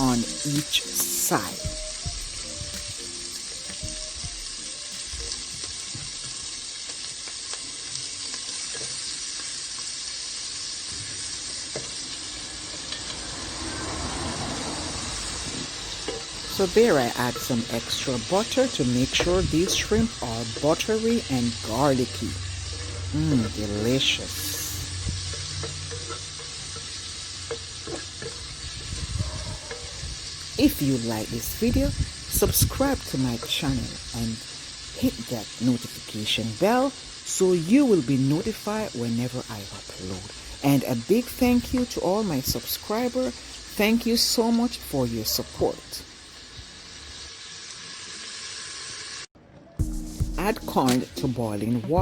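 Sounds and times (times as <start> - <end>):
shrimp sizzling in a pan: 0.0 - 51.6.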